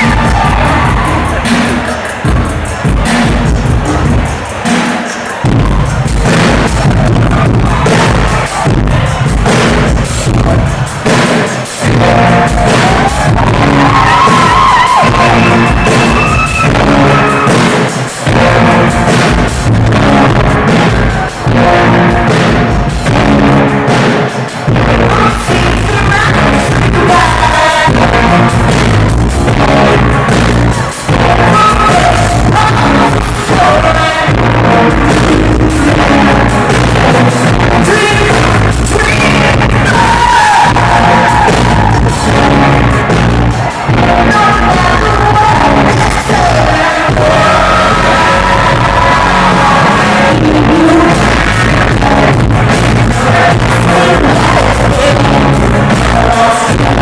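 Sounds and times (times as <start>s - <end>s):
person singing: 0.0s - 57.0s
rock band playing live: 0.0s - 57.0s
steady drum beat: 0.0s - 57.0s.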